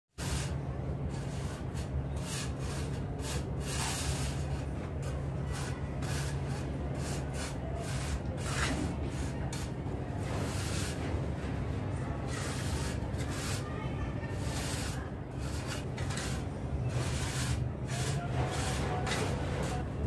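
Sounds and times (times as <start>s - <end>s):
trowel scraping mortar: 0.2s - 11.0s, 12.3s - 13.6s, 14.3s - 19.9s.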